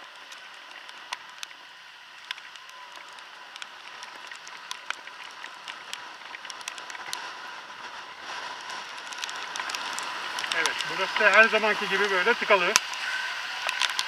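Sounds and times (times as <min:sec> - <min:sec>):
raindrops tapping on camera: 0:00.0 - 0:14.0
wind and wet road hiss: 0:00.0 - 0:14.0.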